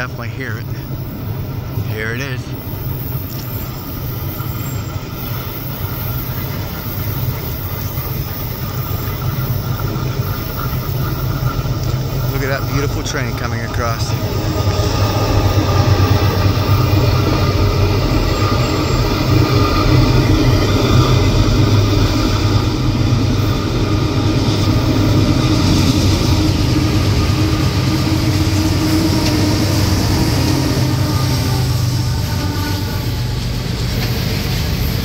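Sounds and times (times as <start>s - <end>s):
diesel locomotives passing on bridge: 0.0s - 35.0s.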